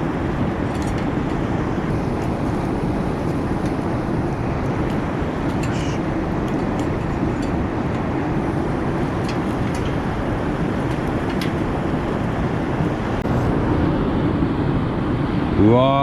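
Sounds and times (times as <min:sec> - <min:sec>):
wood fire burning: 0:00.0 - 0:15.0.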